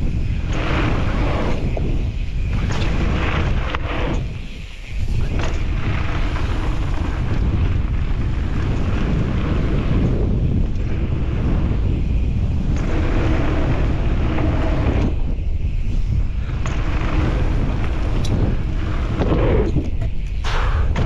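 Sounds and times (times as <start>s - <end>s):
bike clacks: 0.0s - 21.0s
bike tyres rumbling on dirt: 0.0s - 21.0s
wind buffeting microphone: 0.0s - 21.0s.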